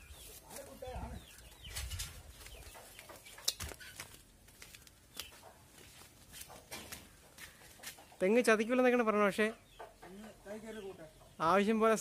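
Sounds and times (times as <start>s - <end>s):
chickens clucking: 0.0s - 11.9s.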